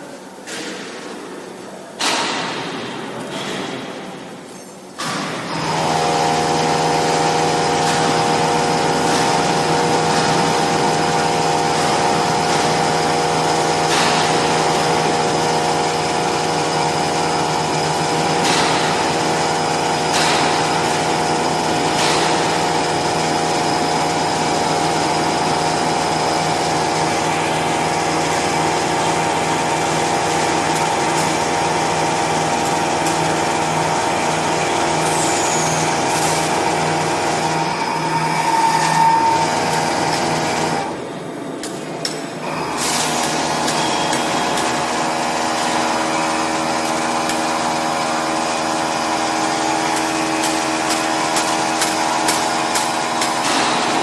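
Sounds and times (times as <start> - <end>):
machining centre whine: 0.0 - 54.0.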